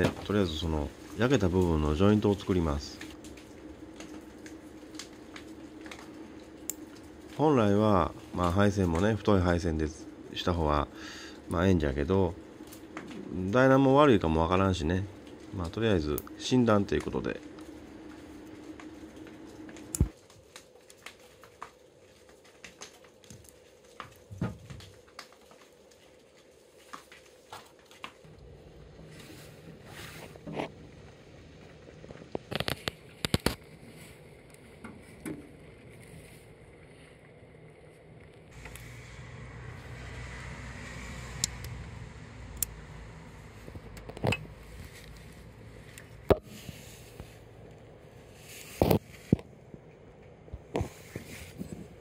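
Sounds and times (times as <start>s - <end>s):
clicks and rustles of wire: 0.0s - 39.0s, 43.6s - 52.0s.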